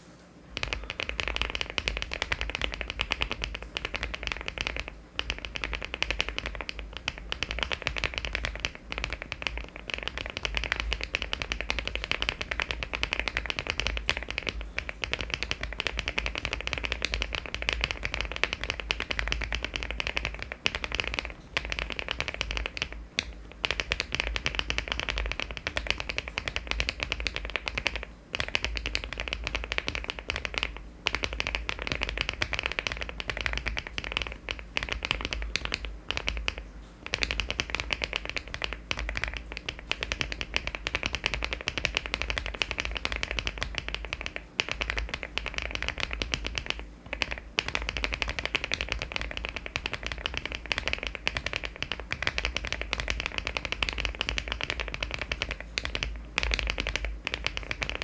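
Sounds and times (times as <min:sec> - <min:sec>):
fast mechanical keyboard typing: 0:00.6 - 0:58.0.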